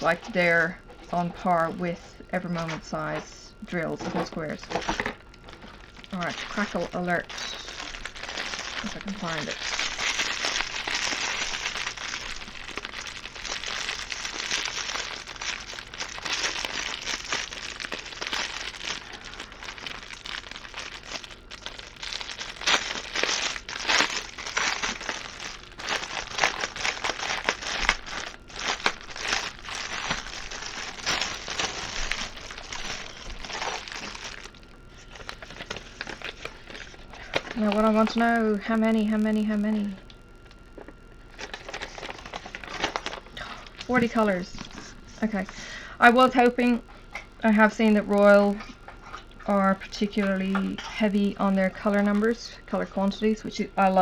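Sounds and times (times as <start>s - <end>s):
plastic packaging crinkling: 0.0s - 54.0s.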